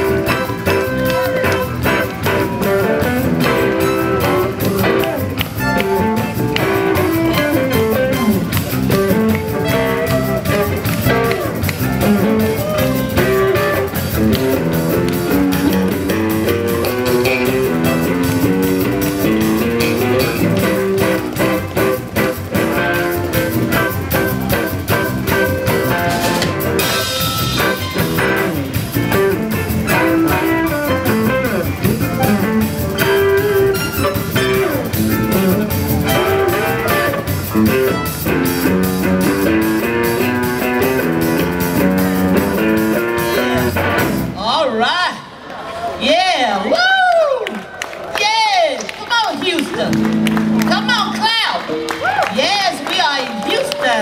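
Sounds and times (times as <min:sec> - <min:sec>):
electric guitar: 0:00.0 - 0:44.4, 0:49.0 - 0:54.0
drum kit: 0:00.0 - 0:44.5
keyboards: 0:00.0 - 0:44.7
bass: 0:00.0 - 0:54.0.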